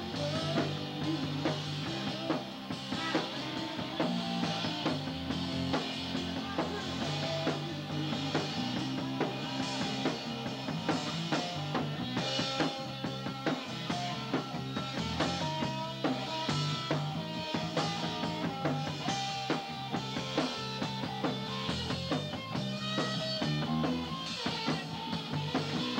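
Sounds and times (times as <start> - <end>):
rock band playing: 0.0 - 25.9.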